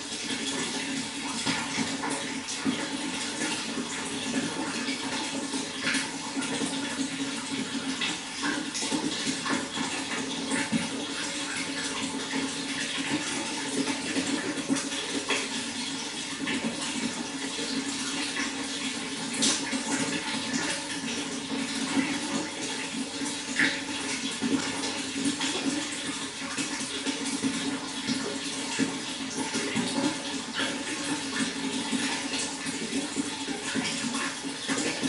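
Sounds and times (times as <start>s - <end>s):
water flowing: 0.0s - 35.0s.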